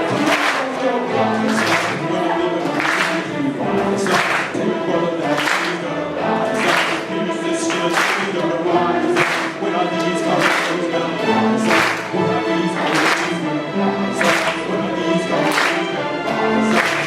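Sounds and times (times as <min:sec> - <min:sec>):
orchestra playing: 0:00.0 - 0:17.0
voices singing: 0:00.0 - 0:17.0.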